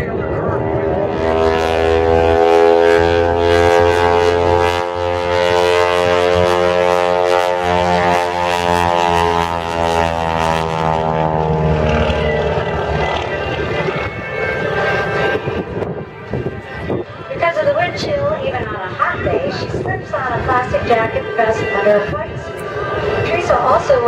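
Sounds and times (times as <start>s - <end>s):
propeller airplane flying past: 0.0s - 24.0s.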